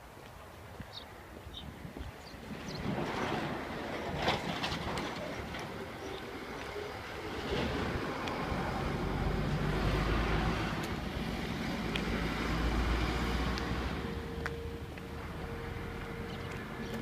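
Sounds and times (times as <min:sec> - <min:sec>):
road vehicle passing rumble: 0:01.8 - 0:17.0.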